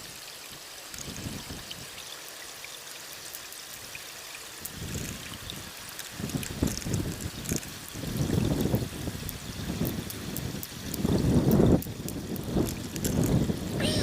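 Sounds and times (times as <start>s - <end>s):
water trickling and pouring: 0.0s - 14.0s.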